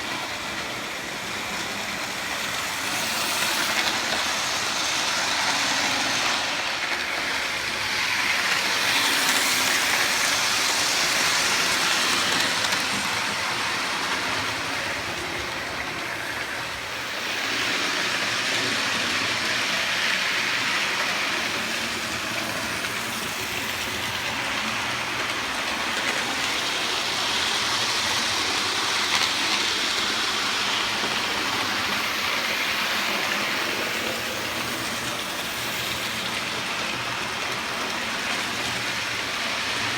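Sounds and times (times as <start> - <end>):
model train wheels rattling on track: 0.0 - 39.9.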